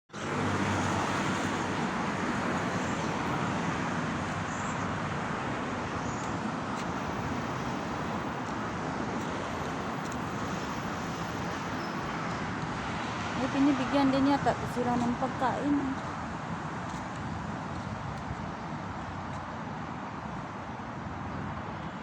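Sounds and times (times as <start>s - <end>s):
road traffic hiss and rumble: 0.1s - 22.0s.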